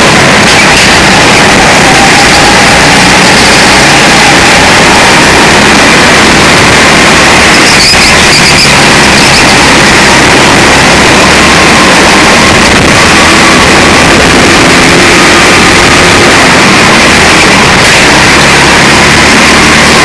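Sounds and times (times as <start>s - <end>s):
go-kart engine running: 0.0s - 20.0s.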